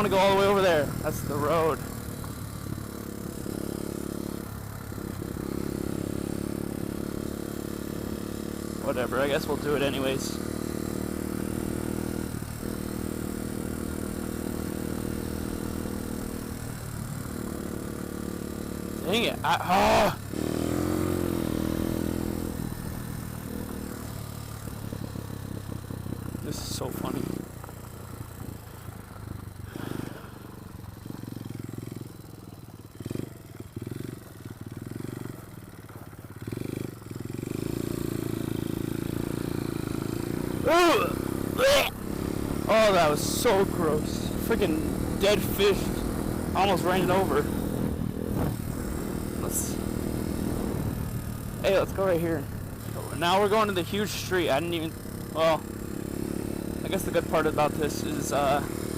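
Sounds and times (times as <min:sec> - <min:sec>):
small motorbike engine running: 0:00.0 - 0:58.9.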